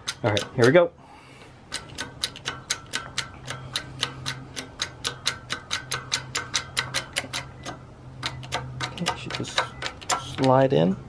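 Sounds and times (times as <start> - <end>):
hydraulic jack pump clicking: 0.0 - 0.8, 1.7 - 10.7
steady low hum: 0.0 - 11.0.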